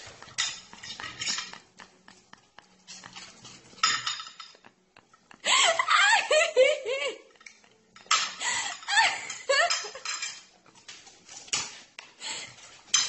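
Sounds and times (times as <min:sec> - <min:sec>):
cutlery clinking on a plate: 0:00.0 - 0:05.2, 0:07.3 - 0:13.0.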